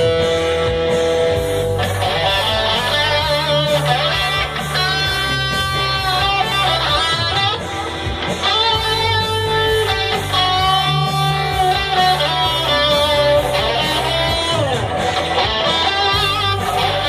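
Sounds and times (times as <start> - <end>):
electric guitar lead: 0.0 - 17.0.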